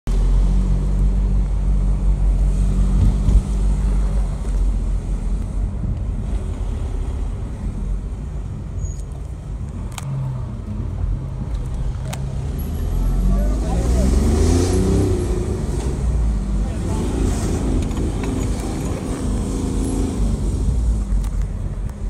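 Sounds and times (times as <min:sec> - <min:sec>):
road noise: 0:00.0 - 0:22.0
car engine drone: 0:00.1 - 0:22.0.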